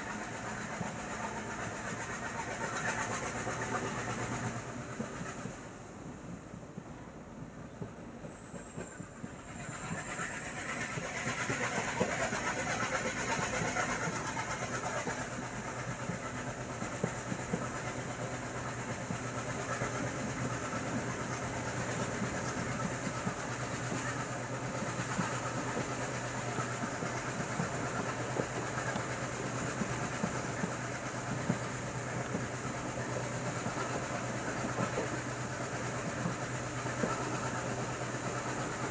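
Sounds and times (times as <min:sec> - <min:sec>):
train rumbling on track: 0:00.0 - 0:38.9
wheels clicking over rail joints: 0:00.0 - 0:38.9.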